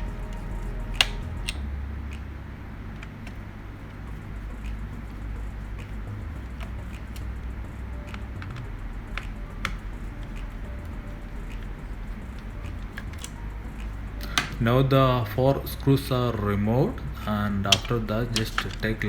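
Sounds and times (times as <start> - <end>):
screwdriver clicks and ticks: 0.0 - 2.3, 2.9 - 14.7, 17.6 - 19.0
low steady hum: 0.0 - 19.0.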